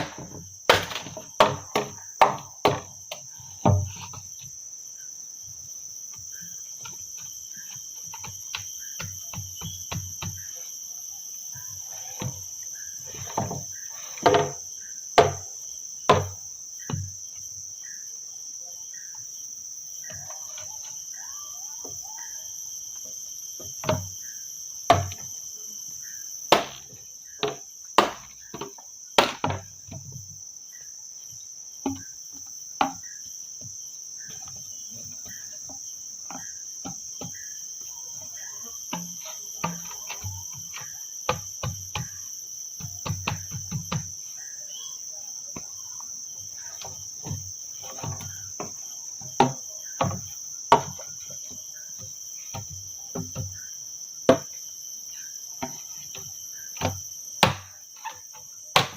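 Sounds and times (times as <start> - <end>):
insects chirping: 0.0 - 58.9.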